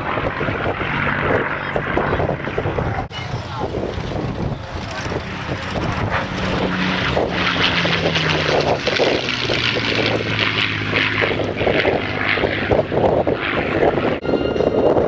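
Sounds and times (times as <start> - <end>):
propeller plane flying past: 0.0 - 15.0
wind buffeting microphone: 0.0 - 15.0.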